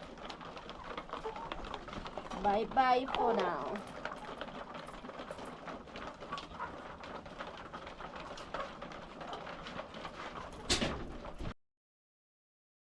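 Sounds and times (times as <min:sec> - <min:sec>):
hens clucking: 0:00.0 - 0:11.5.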